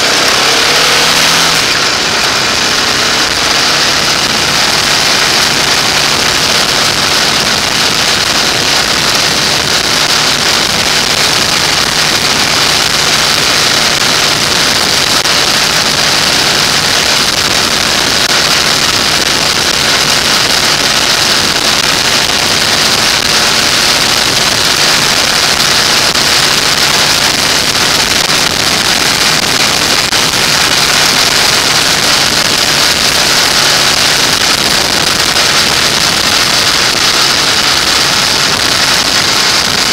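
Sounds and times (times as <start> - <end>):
motorcycle engine humming: 0.0 - 39.9
wind rushing over microphone: 0.0 - 39.9.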